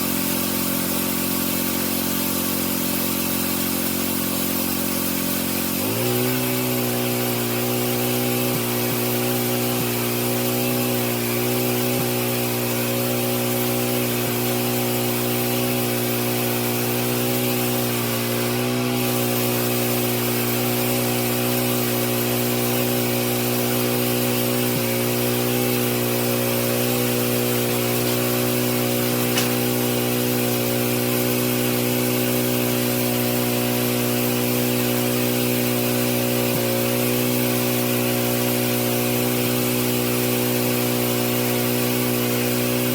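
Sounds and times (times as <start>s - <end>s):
pressure washer motor humming: 0.0s - 42.9s
water spray hissing: 0.0s - 42.9s.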